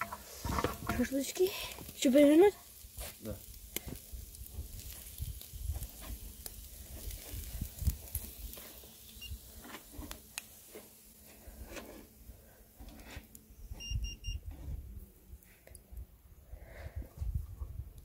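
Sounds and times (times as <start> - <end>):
meat sizzling over charcoal: 0.0 - 15.8
fat crackling and popping: 0.0 - 16.1.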